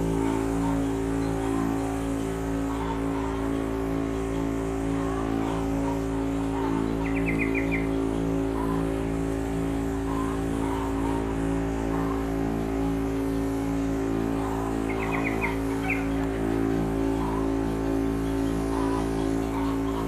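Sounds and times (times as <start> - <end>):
bird trilling: 0.0 - 13.4, 14.3 - 20.0
sprayer pump motor running: 0.0 - 20.0.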